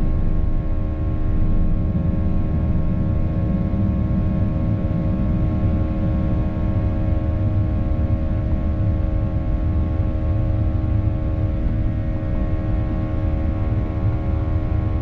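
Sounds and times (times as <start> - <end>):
constant humming tones: 0.0 - 15.0
jet engine cabin rumble: 0.0 - 15.0.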